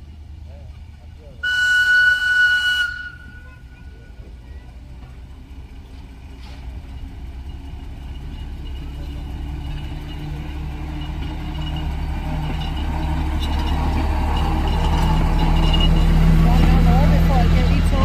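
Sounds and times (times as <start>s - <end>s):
railcar engine running: 0.0s - 18.0s.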